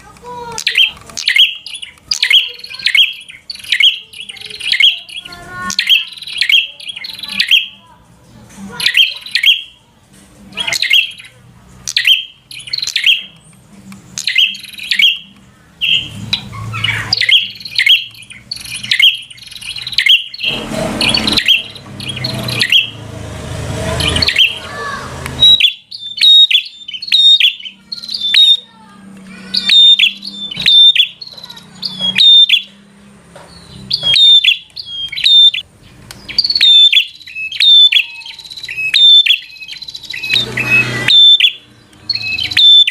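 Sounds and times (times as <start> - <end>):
birds scolding chirps: 0.0 - 42.9.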